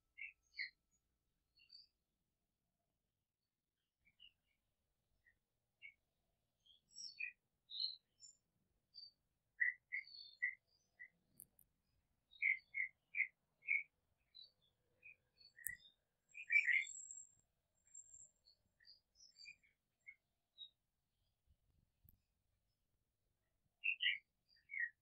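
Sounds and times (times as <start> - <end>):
small birds chirping: 0.0 - 2.0, 4.0 - 22.8, 23.4 - 25.0.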